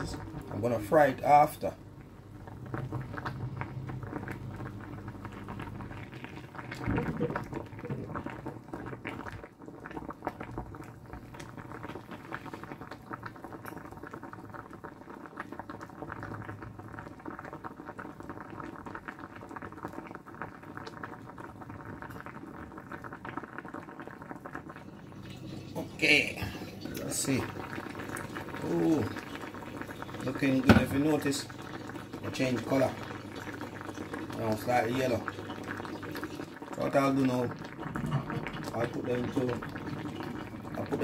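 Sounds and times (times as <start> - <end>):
water boiling and bubbling: 0.0 - 41.0.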